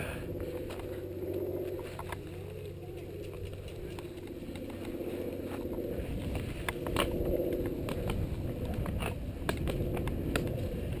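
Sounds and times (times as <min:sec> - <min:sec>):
bike tyres rumbling on gravel: 0:00.0 - 0:11.0
stones and bike clicking and rattling: 0:00.0 - 0:11.0.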